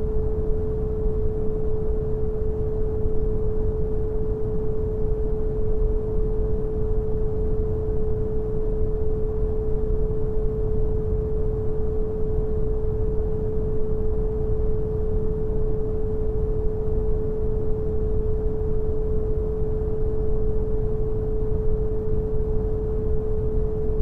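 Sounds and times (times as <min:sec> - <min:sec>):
pure steady tone: 0:00.0 - 0:24.0.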